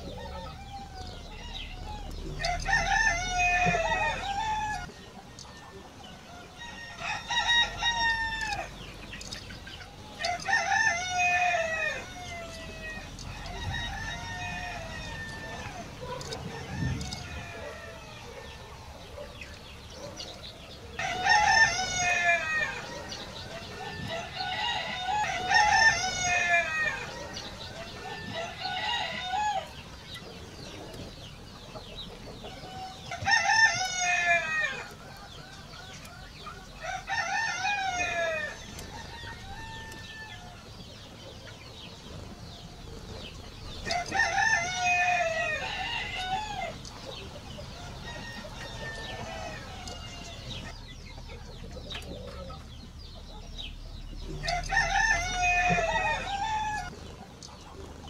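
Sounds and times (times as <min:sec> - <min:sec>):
roosters crowing: 0:00.0 - 0:58.0.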